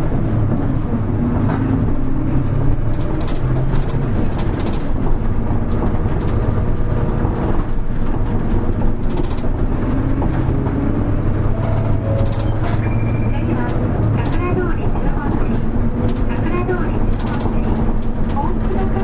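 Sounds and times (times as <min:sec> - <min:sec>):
bus engine hum: 0:00.0 - 0:19.0.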